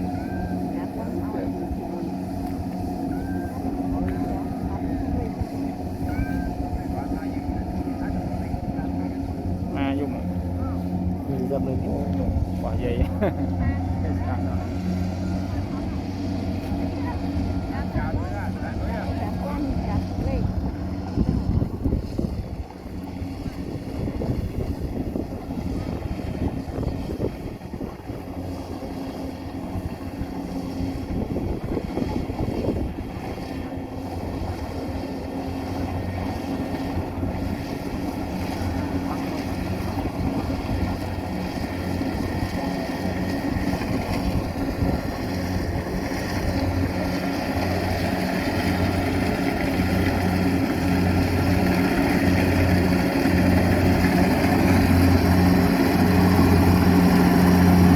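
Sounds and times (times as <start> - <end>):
combine harvester engine running: 0.0 - 57.9
wind on microphone: 0.0 - 57.9.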